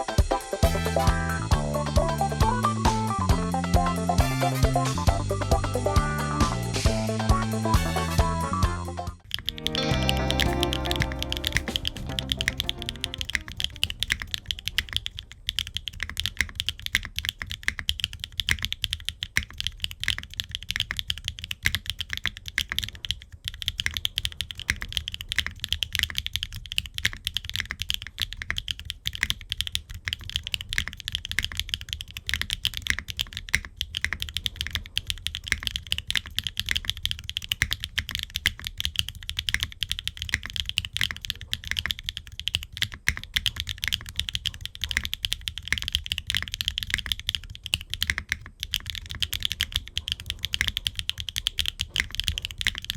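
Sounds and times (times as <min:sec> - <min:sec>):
fast typing on mechanical keyboard: 0:09.2 - 0:52.9.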